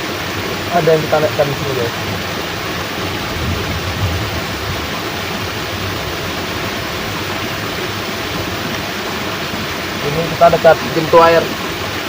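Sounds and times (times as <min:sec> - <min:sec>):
heavy rain: 0:00.0 - 0:12.0
water rushing through sluice gate: 0:00.0 - 0:12.0.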